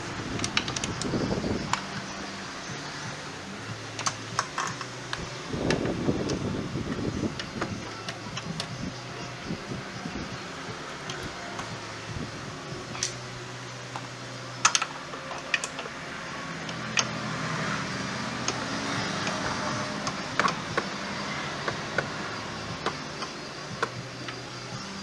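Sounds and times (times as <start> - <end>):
hand tools clicking and tapping: 0.0 - 25.0
steady low hum: 0.0 - 25.0.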